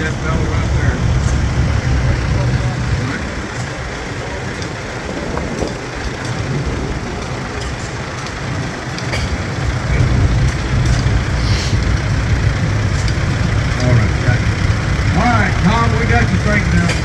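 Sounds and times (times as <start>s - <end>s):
tractor engine rumble: 0.0s - 17.0s.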